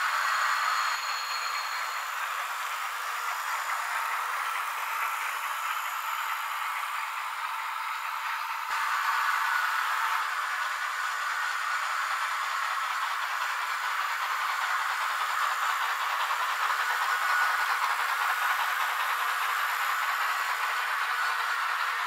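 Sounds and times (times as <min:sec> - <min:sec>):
model train rolling on track: 0:00.0 - 0:22.0
model train steam hiss: 0:00.0 - 0:22.0.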